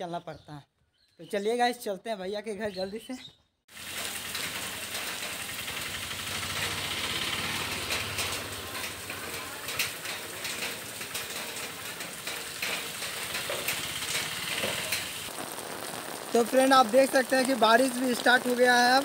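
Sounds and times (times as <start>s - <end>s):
heavy rain hissing: 3.7s - 19.0s
raindrops tapping close by: 3.7s - 19.0s.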